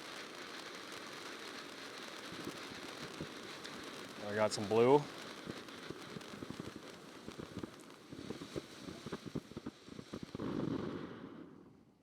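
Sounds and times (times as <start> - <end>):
firework fountain crackling: 0.0 - 12.0
firework fountain hiss: 0.0 - 12.0.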